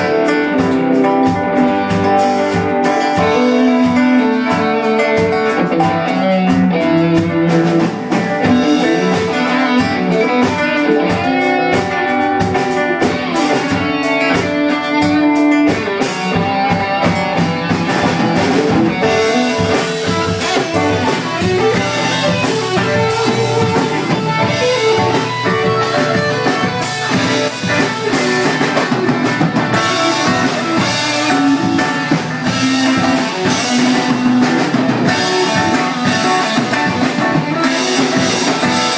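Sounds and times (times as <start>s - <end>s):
electric guitar: 0.0s - 38.9s
rock band playing: 0.0s - 38.9s
steady drum kit beat: 0.0s - 38.9s.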